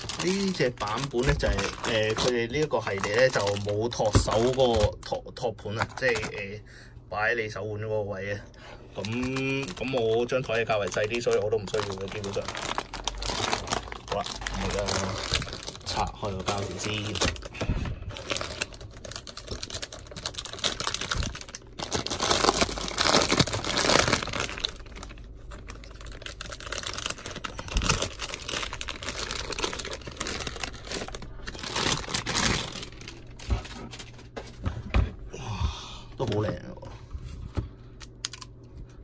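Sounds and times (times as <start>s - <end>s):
plastic wrap crinkling and tearing: 0.0s - 6.6s, 9.0s - 34.4s.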